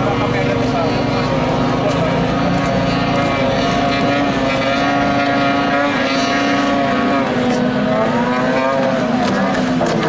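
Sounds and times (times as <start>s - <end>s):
racing boat outboard engines buzzing: 0.0s - 10.0s.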